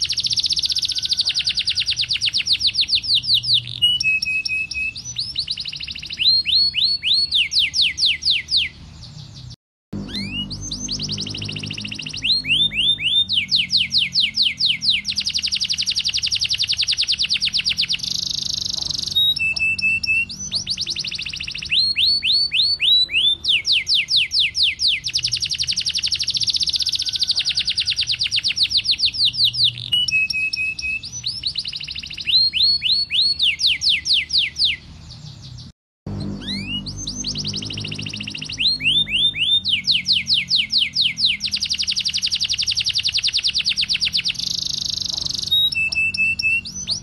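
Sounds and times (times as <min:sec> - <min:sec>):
canary singing: 0:00.0 - 0:47.0.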